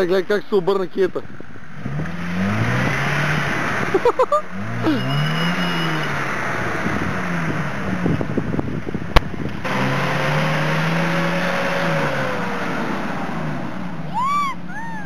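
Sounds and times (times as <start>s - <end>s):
car engine revving: 1.5s - 14.2s.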